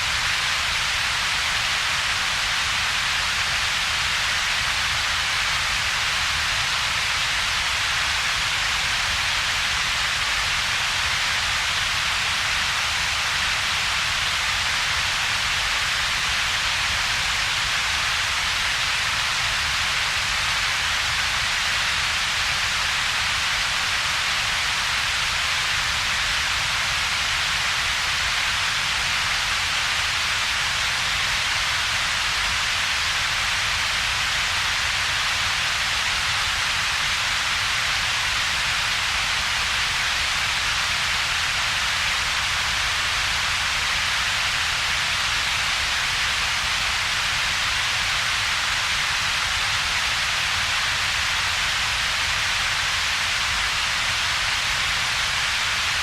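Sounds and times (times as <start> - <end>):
synthetic hiss over low rumble: 0.0 - 56.0.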